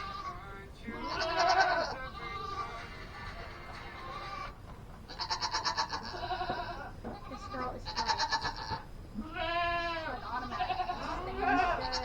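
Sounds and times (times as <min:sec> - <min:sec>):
goat bleating: 0:00.0 - 0:12.0.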